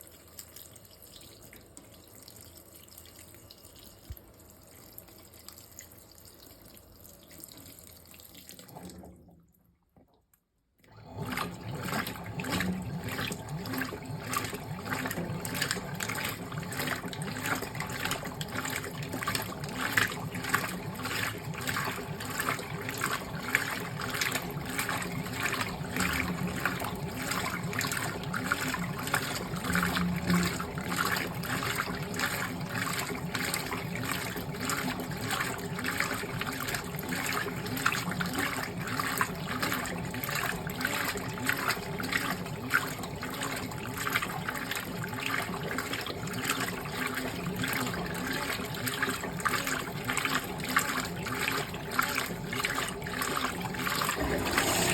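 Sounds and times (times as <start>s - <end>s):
water filling washing machine tub: 0.0s - 9.7s, 10.8s - 54.9s.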